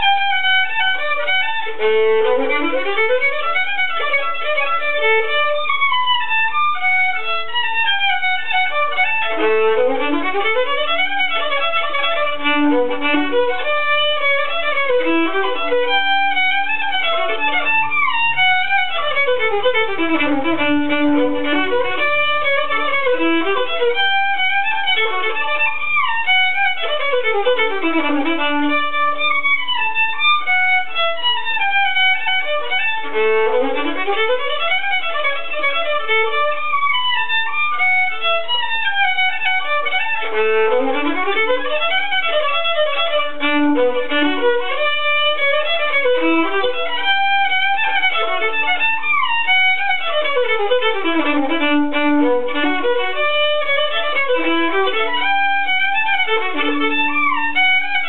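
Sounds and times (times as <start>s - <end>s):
solo violin melody: 0.0s - 58.0s.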